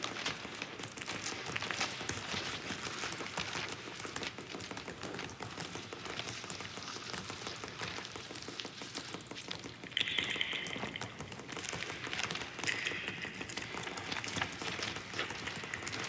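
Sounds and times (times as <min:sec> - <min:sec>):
patter of small clicks and taps: 0:00.1 - 0:16.0.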